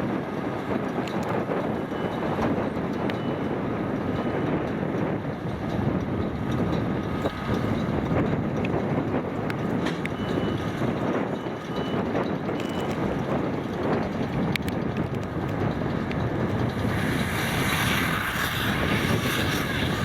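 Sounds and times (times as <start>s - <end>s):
tractor running under load: 0.0s - 20.0s.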